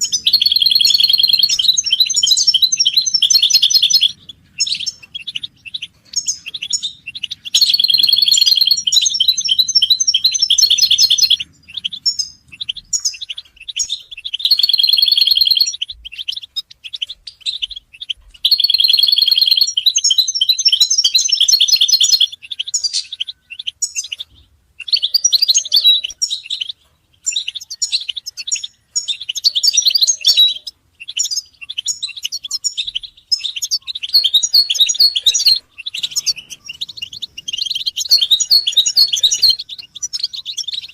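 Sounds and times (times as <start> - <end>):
goldfinch song and twittering: 0.0 - 40.9.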